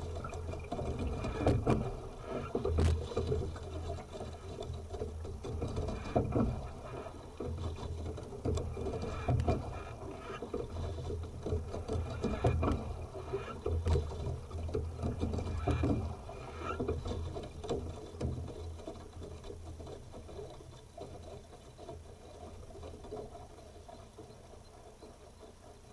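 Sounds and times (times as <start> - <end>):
water rushing past hull: 0.0 - 25.9.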